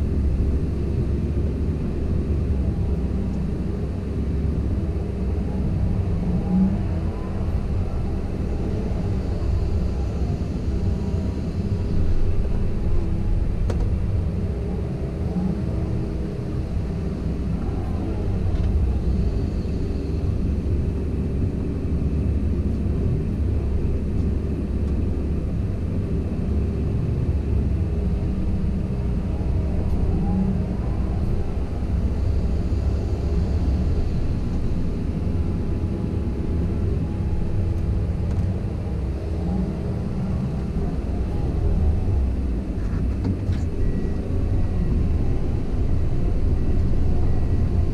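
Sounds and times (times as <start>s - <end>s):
excavator diesel engine running: 0.0s - 47.9s
faint rising and falling whines: 0.0s - 47.9s.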